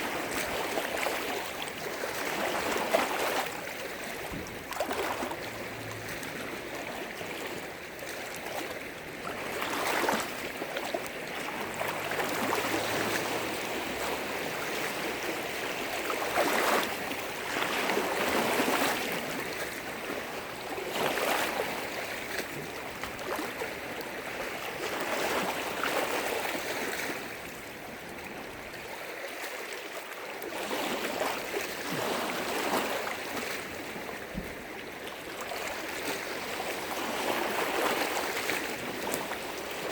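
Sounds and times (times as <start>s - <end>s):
waves breaking against shore: 0.0s - 39.9s.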